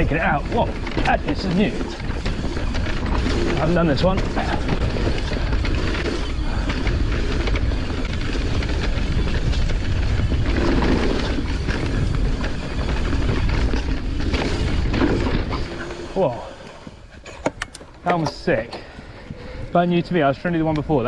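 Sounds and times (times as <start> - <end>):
wind rumble on microphone: 0.0 - 17.2
bike rattling over bumps: 0.0 - 21.0
bike tyres rolling over dirt: 0.0 - 21.0.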